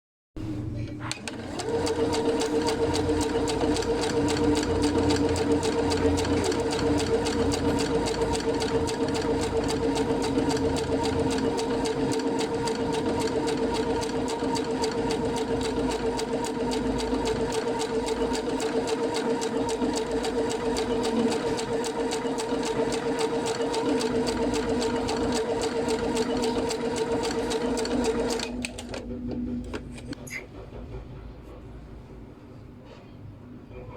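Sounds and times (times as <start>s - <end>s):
sewing machine stitching: 1.1s - 29.2s.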